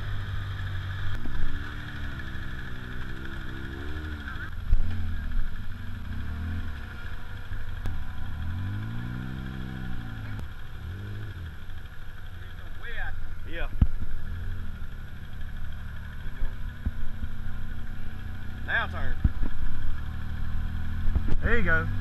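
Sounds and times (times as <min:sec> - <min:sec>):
engine revving: 0:00.0 - 0:22.0
off-road vehicle engine idling: 0:00.0 - 0:22.0.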